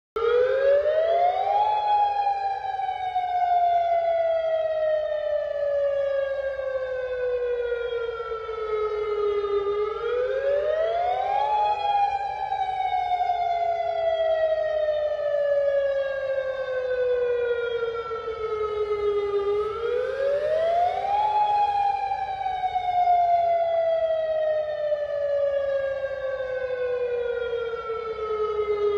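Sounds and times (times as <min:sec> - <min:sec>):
warning siren wailing: 0:00.2 - 0:28.9.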